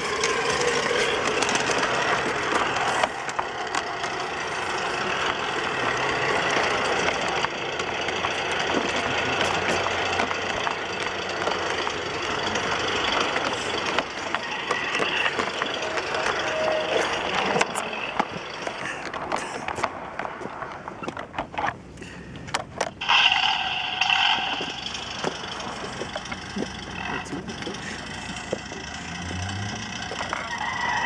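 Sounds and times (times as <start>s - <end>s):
model train running on rails: 0.0s - 20.9s, 22.9s - 31.0s.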